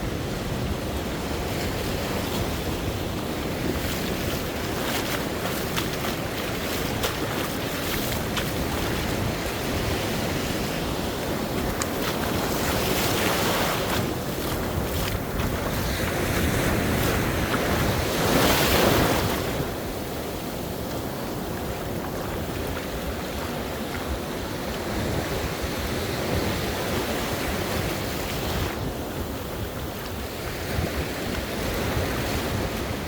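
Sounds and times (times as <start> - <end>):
sea waves washing in: 0.0 - 33.0
wind buffeting microphone: 0.0 - 33.0.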